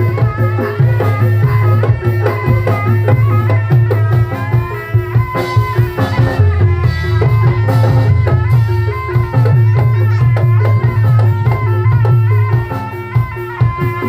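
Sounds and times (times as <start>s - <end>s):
drums beating: 0.0s - 14.0s.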